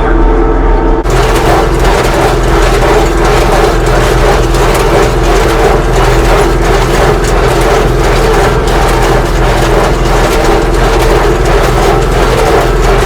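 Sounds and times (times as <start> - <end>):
hay baler mechanism working: 1.0 - 13.0
tractor engine running: 1.0 - 13.0.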